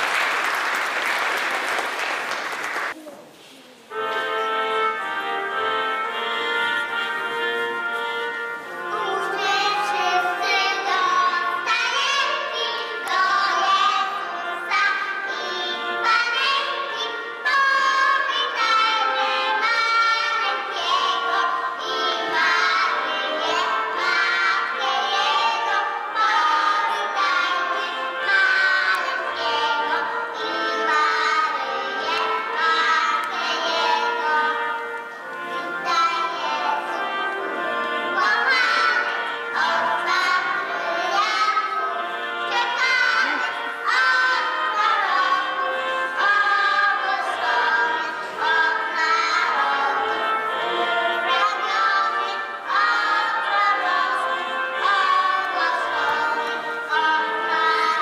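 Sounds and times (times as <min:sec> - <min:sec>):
instrumental accompaniment: 0:03.9 - 0:58.0
children singing: 0:08.4 - 0:58.0.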